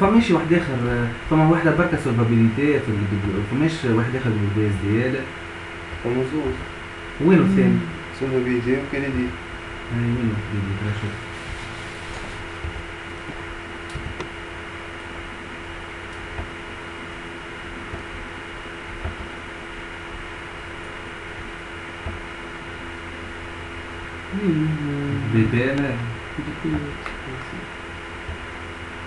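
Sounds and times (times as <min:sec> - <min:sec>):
background hum and hiss: 0:00.0 - 0:29.0.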